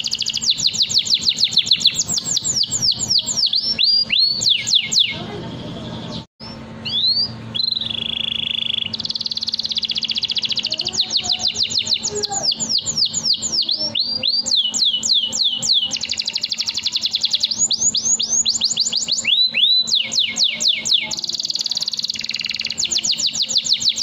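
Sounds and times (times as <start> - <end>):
canary singing trills: 0.0 - 24.0.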